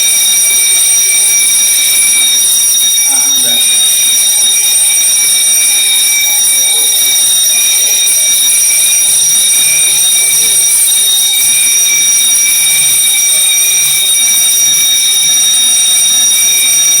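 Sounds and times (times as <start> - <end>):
fire alarm ringing: 0.0 - 17.0.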